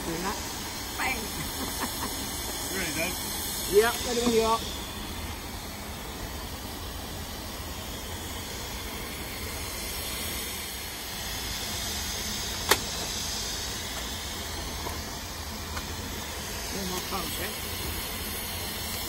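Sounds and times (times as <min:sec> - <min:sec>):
steam hissing from safety valve: 0:00.0 - 0:19.0.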